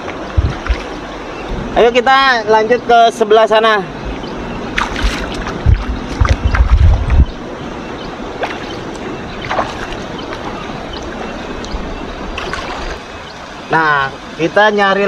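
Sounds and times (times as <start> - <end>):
water splashing from wading: 0.0 - 1.7, 4.0 - 14.4
flowing water hiss: 0.0 - 15.0.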